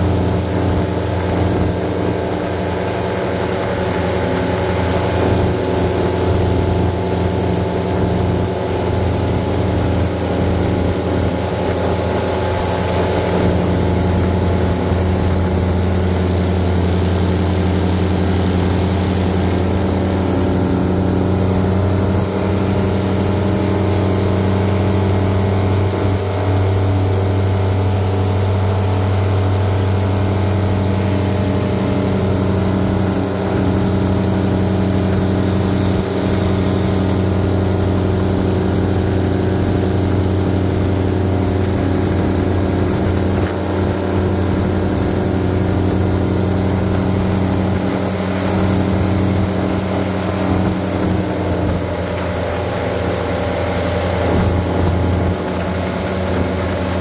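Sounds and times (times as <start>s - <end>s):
airboat engine and propeller drone: 0.0s - 57.0s.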